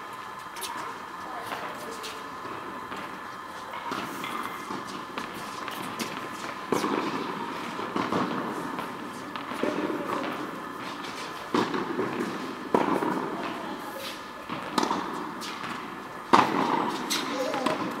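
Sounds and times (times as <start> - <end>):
rackets striking tennis ball: 1.5 - 18.0.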